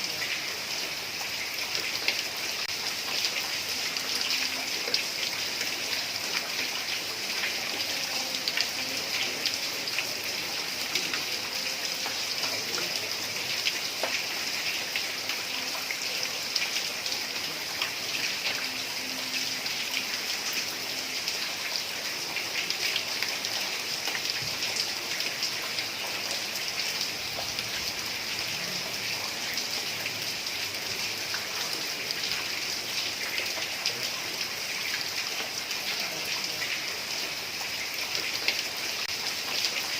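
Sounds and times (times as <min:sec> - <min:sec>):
heavy rain on roof tiles: 0:00.0 - 0:39.9.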